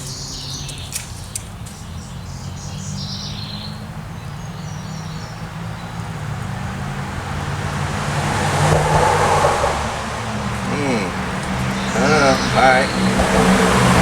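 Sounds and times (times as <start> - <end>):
small birds chirping: 0.0 - 7.9, 9.8 - 14.0
vehicle engine hum: 0.0 - 14.0.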